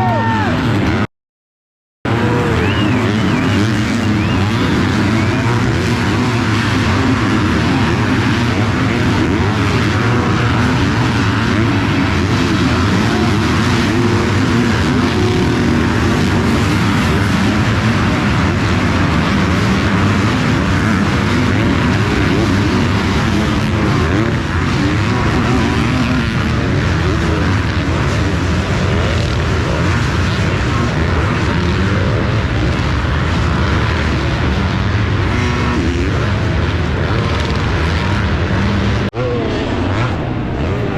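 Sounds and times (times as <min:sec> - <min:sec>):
motocross bikes revving: 0:00.0 - 0:01.1, 0:02.1 - 0:40.9.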